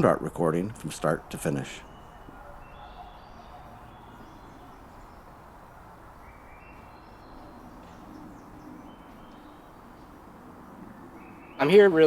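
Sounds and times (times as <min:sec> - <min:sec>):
birds chirping: 0:00.0 - 0:12.0
low background noise: 0:00.0 - 0:12.0.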